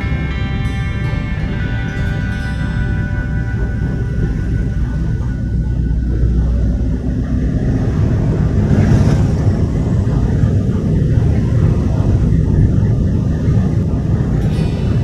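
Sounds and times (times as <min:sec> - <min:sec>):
vehicle rumbling in traffic: 0:00.0 - 0:15.0.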